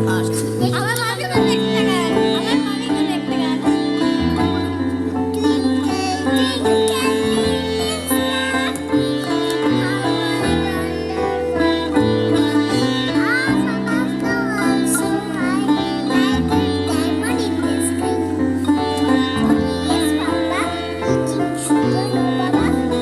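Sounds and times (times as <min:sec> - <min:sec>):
sitar plucked notes: 0:00.0 - 0:23.0.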